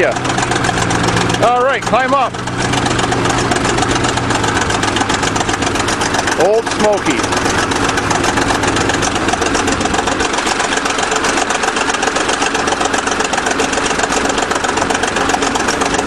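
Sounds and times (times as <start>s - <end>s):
dozer engine idling: 0.0s - 16.0s.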